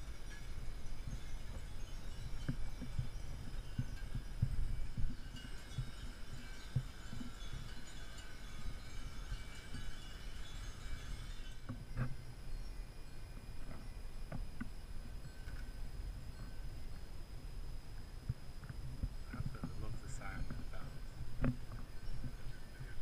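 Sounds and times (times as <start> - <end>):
small bells tinkling: 0.0 - 23.0.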